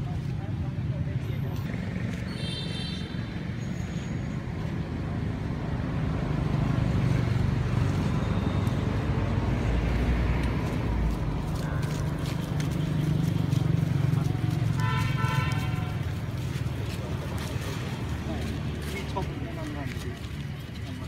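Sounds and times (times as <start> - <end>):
vehicle engine rumble: 3.2 - 21.0.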